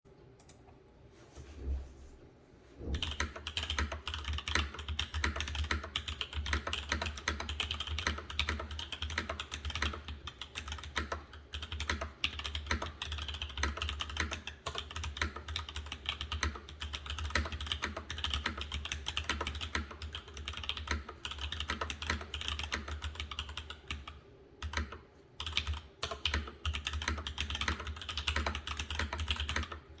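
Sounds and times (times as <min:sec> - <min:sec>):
fast keyboard typing: 0:02.9 - 0:30.0.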